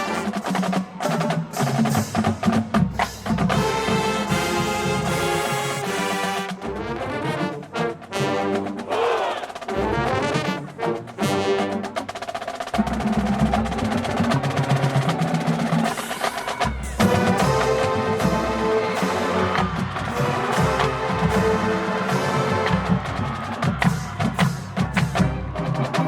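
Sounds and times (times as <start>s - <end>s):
marching drums: 0.0s - 7.0s, 7.9s - 26.0s
marching band brass chords: 0.0s - 26.0s.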